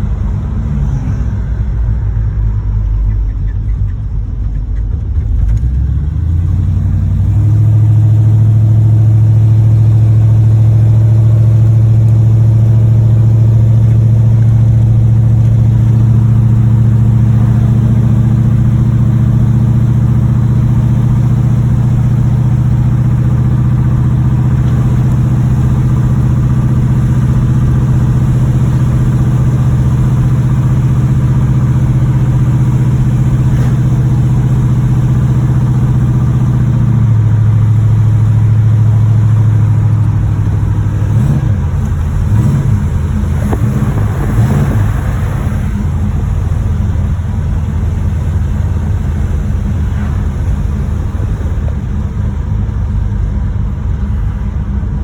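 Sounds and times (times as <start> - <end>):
car engine with knocking: 0.0 - 55.0.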